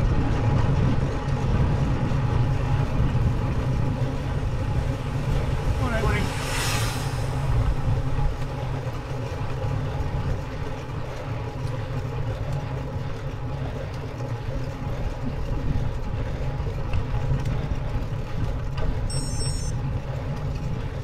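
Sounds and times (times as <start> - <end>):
bicycle tyre rumble on tarmac: 0.0 - 21.0.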